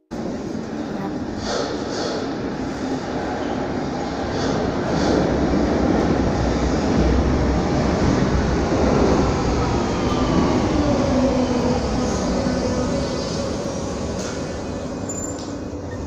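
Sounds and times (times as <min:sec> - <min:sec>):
rumble of train wheels on rails: 0:00.1 - 0:16.0.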